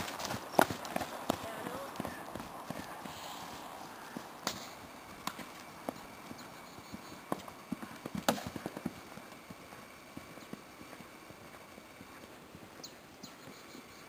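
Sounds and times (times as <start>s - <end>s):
horse hoofbeats on grass: 0.0s - 13.9s.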